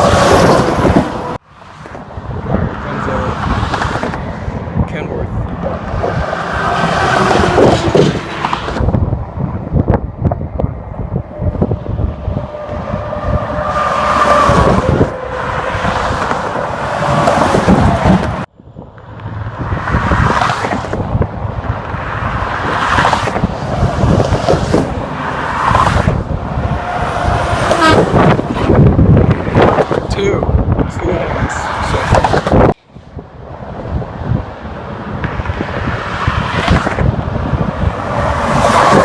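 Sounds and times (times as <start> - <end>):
freeway traffic rushing past: 0.0 - 39.0
wind buffeting microphone: 0.0 - 39.0.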